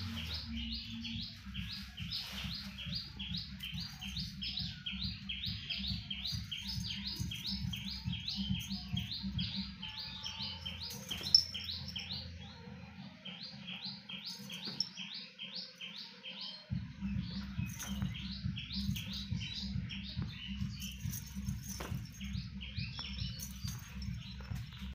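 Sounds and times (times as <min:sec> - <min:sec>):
bird chirping rapidly: 0:00.0 - 0:12.4, 0:13.4 - 0:24.9.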